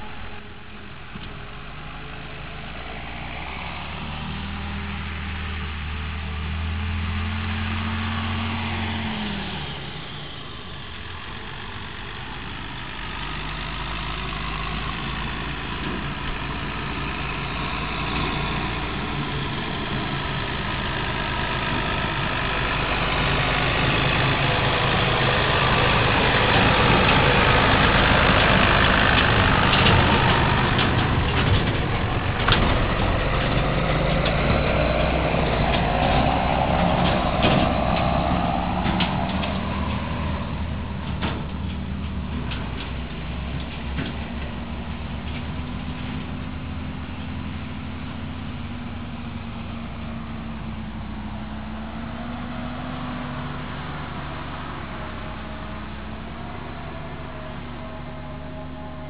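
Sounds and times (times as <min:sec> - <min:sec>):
tractor diesel engine: 0:00.0 - 0:59.0
trailers knocking and rattling: 0:10.7 - 0:59.0.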